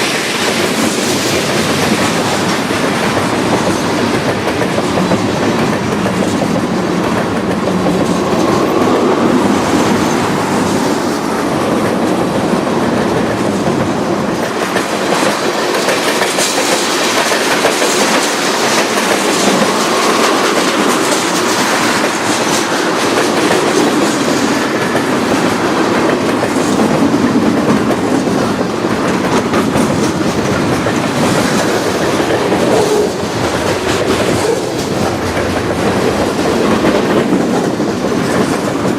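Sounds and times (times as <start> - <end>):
freight train wheels on rails: 0.0 - 38.9.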